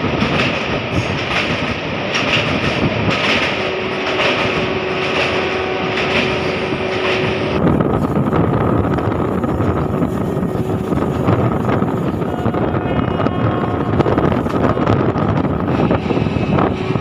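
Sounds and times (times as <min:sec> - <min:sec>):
train rumbling over bridge: 0:00.0 - 0:17.0.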